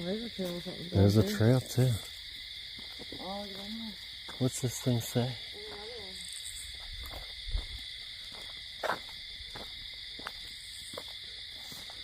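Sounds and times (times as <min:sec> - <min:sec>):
night insect chorus: 0:00.0 - 0:12.0.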